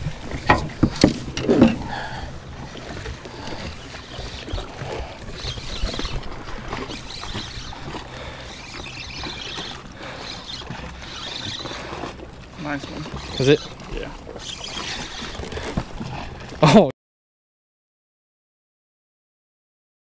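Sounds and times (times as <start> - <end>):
water and boat noise: 0.0 - 16.9.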